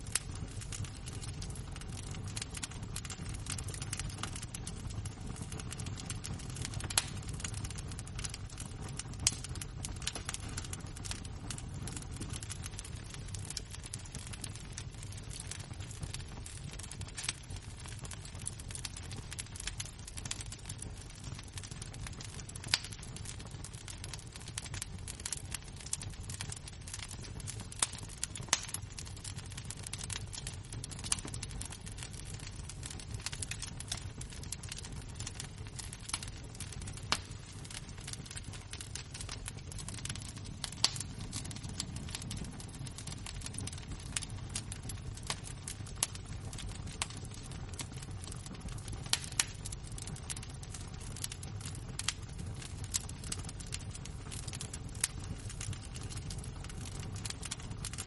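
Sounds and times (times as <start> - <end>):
low fire rumble: 0.0 - 58.0
sharp popping of embers: 0.0 - 58.0
wood fire crackling: 0.0 - 58.0.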